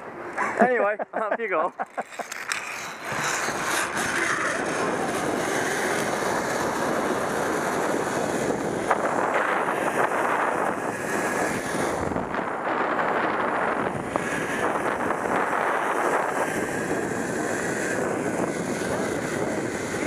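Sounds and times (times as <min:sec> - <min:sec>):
zip line trolley whirring: 0:00.0 - 0:20.0
wind on microphone: 0:02.6 - 0:20.0.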